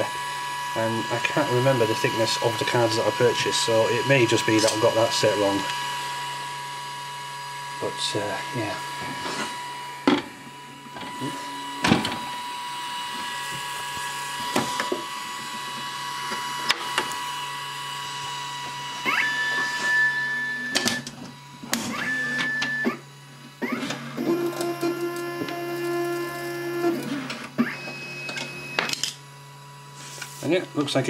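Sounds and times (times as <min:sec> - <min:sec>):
card printer mechanical hum: 0:00.0 - 0:31.0
motor whine: 0:00.0 - 0:31.0.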